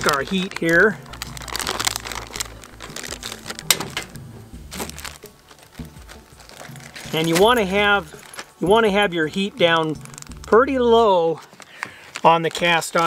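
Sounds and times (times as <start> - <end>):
crinkling rustle: 0.0 - 13.0.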